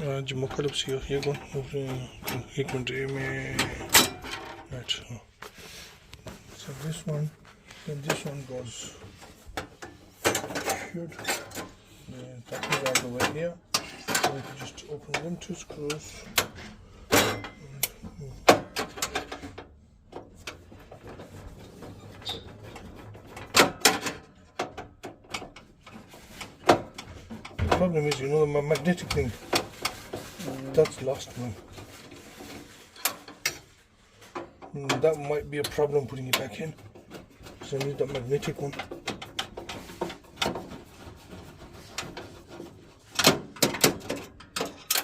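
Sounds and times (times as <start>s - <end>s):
tools clicking and knocking: 0.0s - 4.7s, 9.0s - 11.8s, 12.4s - 45.0s.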